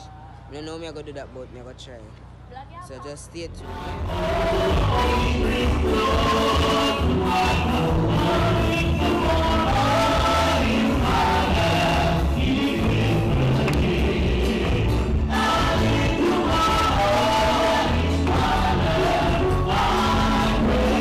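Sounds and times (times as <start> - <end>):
gospel singing: 3.5 - 21.0
band with heavy bass line: 3.6 - 21.0.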